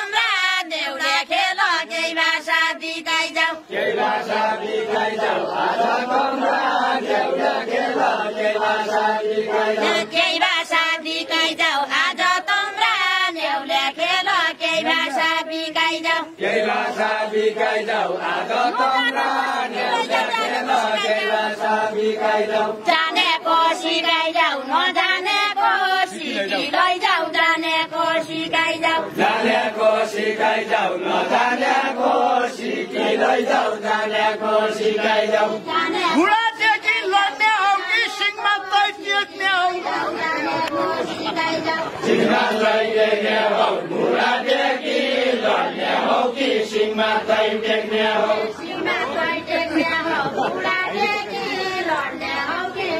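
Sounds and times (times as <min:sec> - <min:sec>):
group singing folk song: 0:00.0 - 0:52.9.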